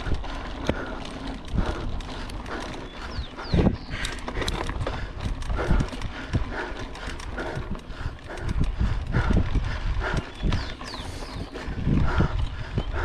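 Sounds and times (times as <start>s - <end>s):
mountain bike rattling: 0.0s - 13.0s
wind rumbling on microphone: 0.0s - 13.0s.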